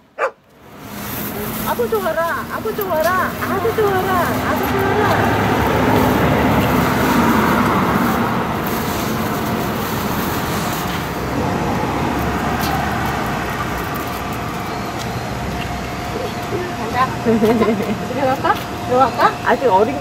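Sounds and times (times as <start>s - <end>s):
passing cars rumbling: 0.0s - 20.0s.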